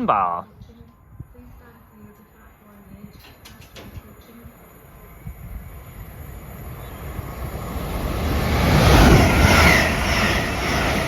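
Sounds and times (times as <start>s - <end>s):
train passing rumble: 0.6s - 11.0s.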